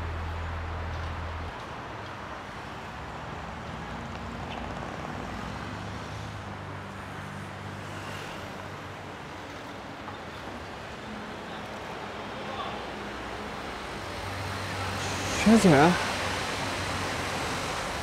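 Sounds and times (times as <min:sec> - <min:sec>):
bus and car engine drone: 0:00.0 - 0:18.0
passing road vehicles hum: 0:00.0 - 0:18.0.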